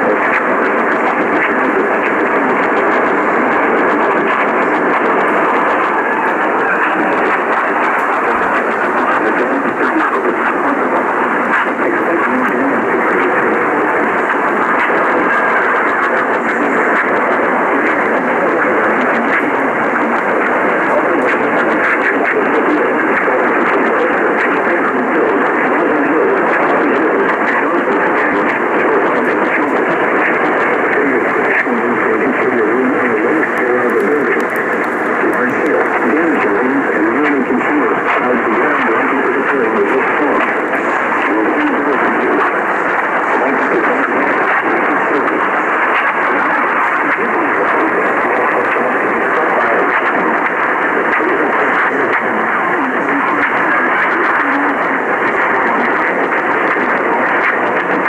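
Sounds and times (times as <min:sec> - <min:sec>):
faint crackles and clicks: 0:00.0 - 0:58.0
radio static hiss: 0:00.0 - 0:58.0.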